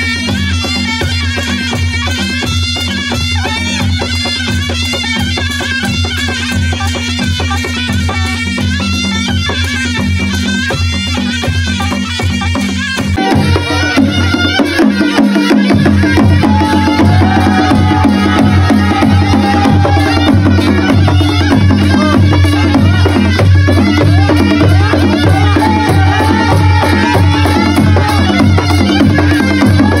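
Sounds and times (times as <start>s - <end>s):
drums keeping a steady beat: 0.0s - 30.0s
wavering wind instrument melody: 0.0s - 30.0s.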